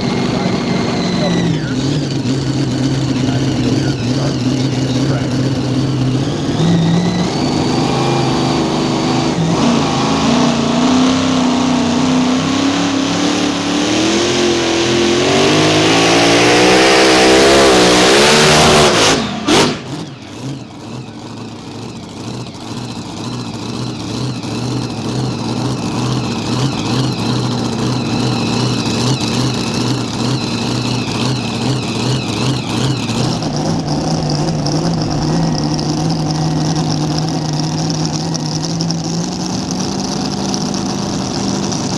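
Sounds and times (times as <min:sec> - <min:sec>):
tractor engine revving under load: 0:00.0 - 0:41.9.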